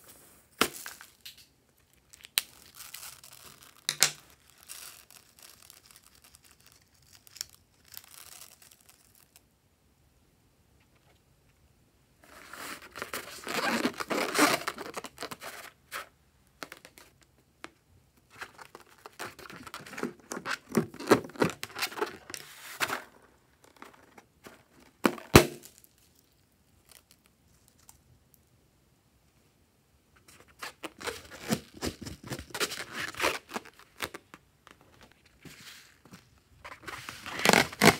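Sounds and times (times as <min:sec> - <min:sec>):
balloon crinkling and crackling: 0:00.0 - 0:09.5, 0:12.2 - 0:28.1, 0:30.2 - 0:37.9.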